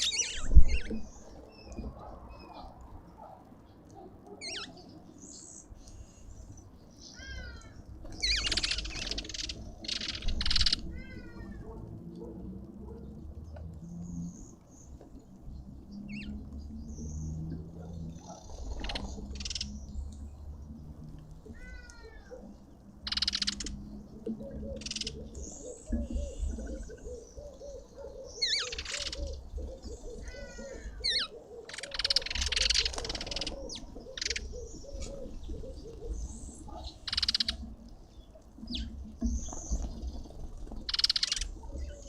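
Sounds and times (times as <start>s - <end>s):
birds calling and chirping: 0.0s - 42.0s.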